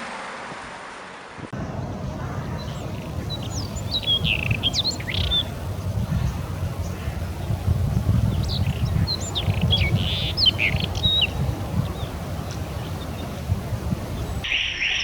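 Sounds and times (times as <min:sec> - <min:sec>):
low rumble: 0:01.5 - 0:14.4
birds chirping: 0:01.5 - 0:15.0.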